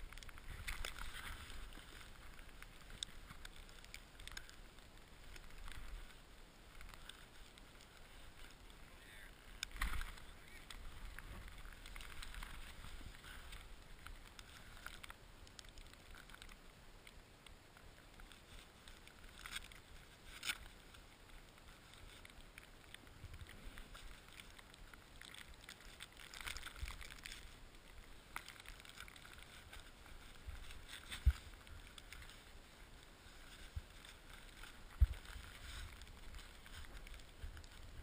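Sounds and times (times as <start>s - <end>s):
skis sliding over snow: 0.0s - 38.0s.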